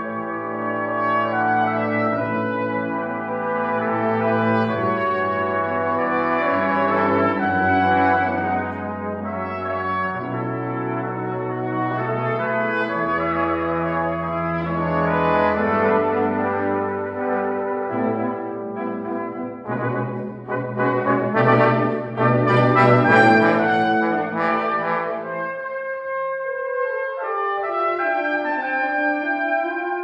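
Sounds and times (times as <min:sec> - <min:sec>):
brass quintet playing chords: 0:00.0 - 0:30.0.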